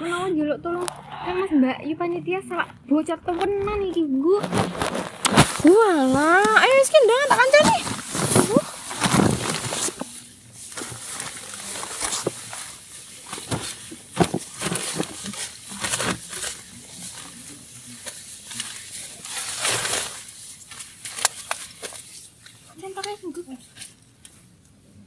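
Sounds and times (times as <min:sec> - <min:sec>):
bedding and clothing rustling: 0:02.4 - 0:24.5.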